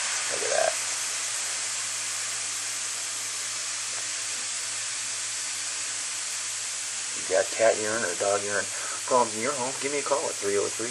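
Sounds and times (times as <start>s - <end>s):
vacuum suction hiss: 0.0s - 10.9s.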